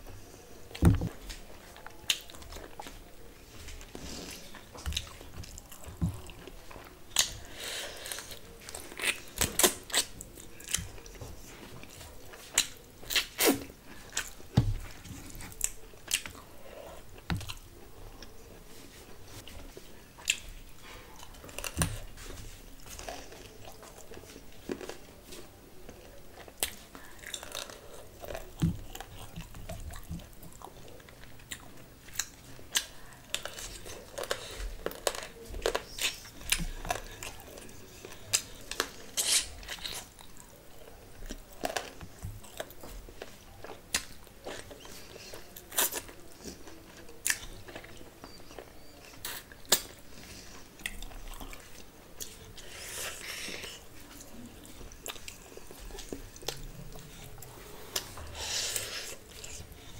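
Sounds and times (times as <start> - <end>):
person chewing with mouth smacks: 3.6 - 18.4, 19.3 - 59.9.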